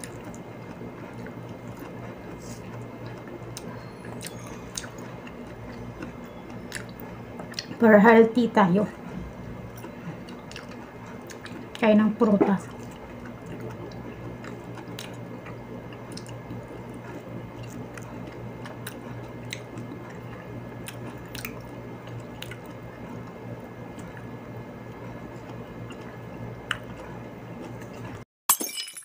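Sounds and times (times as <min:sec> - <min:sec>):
wet chewing of fruit: 0:00.0 - 0:07.9, 0:09.2 - 0:28.2
steady low hum: 0:00.0 - 0:28.2.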